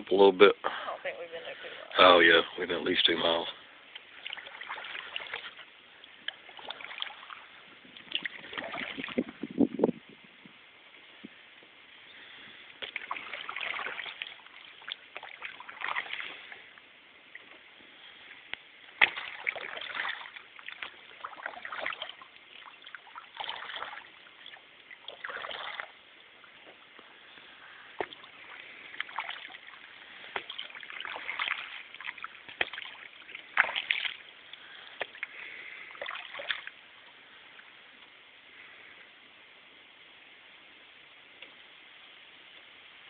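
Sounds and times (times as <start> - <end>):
paddle splashing water: 1.6 - 10.0, 10.9 - 38.9.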